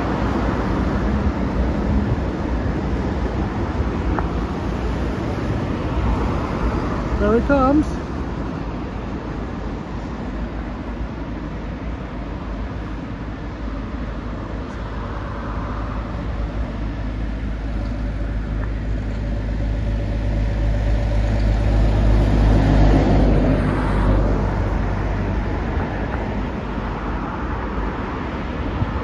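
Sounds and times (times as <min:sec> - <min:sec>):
jet plane passing overhead: 0:00.0 - 0:29.0.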